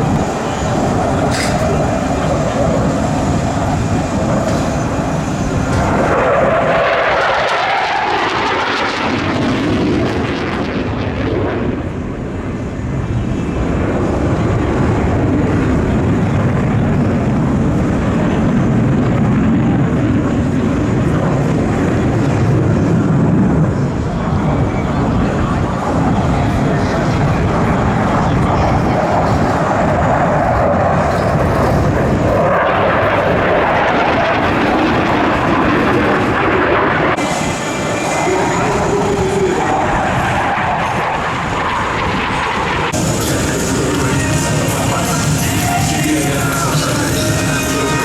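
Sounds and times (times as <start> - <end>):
aircraft engine rumble: 0.0 - 48.0.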